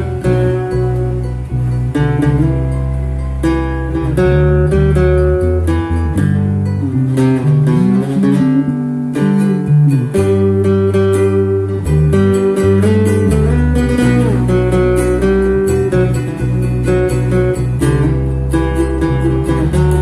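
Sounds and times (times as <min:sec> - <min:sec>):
acoustic guitar piece: 0:00.0 - 0:20.0.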